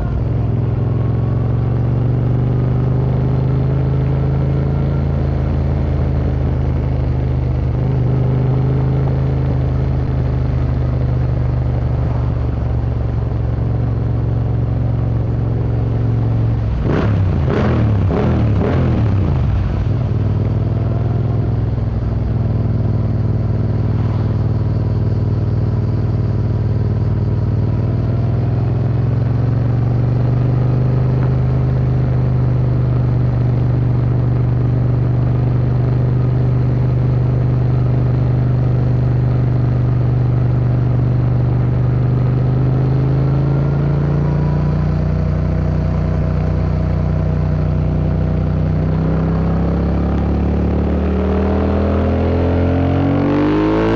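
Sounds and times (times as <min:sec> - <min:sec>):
motorcycle engine riding: 0:00.0 - 0:53.9.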